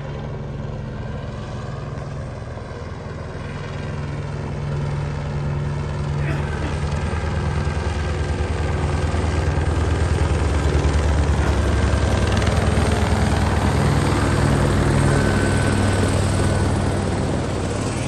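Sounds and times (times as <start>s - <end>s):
helicopter rotor beating overhead: 0.0s - 18.0s.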